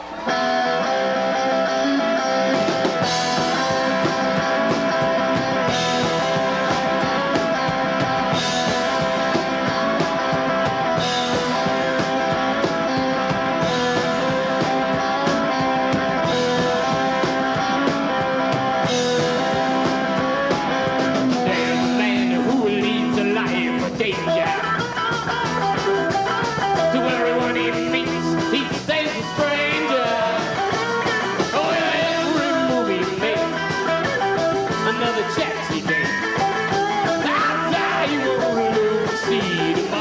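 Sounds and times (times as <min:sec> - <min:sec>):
drums: 0:00.0 - 0:40.0
electric guitars: 0:00.0 - 0:40.0.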